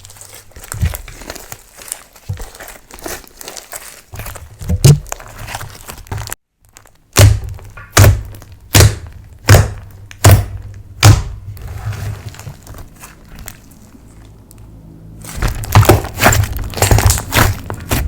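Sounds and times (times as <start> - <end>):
slime thunking by hand: 0.2 - 13.8, 15.2 - 18.0.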